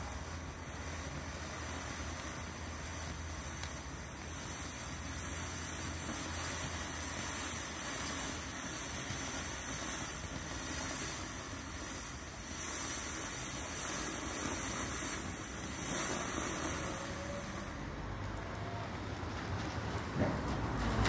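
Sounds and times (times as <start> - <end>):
firework fountain hissing: 0.0 - 21.0.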